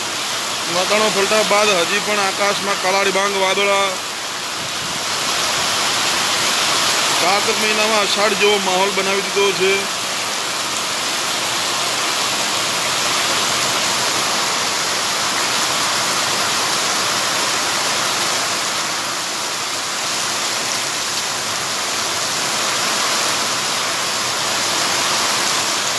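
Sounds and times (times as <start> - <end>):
heavy rain on pavement: 0.0 - 25.9.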